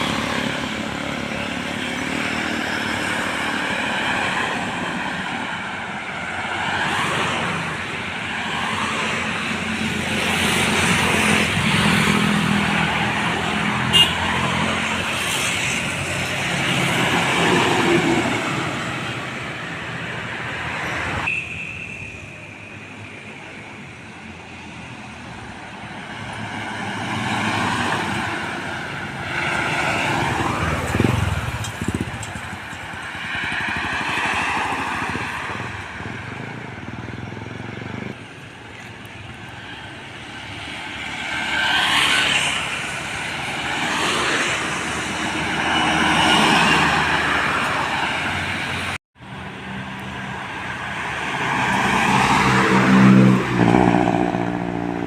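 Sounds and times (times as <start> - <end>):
heavy trucks and buses passing: 0.0 - 55.0.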